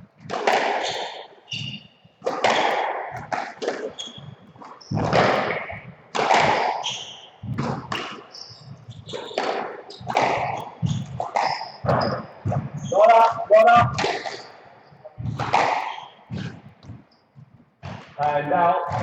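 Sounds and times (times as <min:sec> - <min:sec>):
squash ball hits: 0:00.2 - 0:14.6, 0:15.2 - 0:16.8, 0:17.8 - 0:19.0
shoes squeaking on court: 0:00.2 - 0:18.2.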